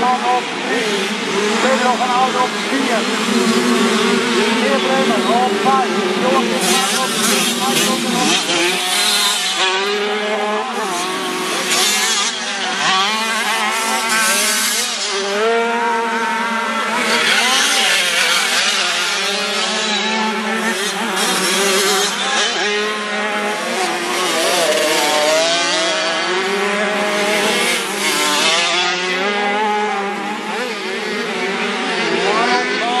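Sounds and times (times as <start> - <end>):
motocross bikes revving: 0.0 - 33.0.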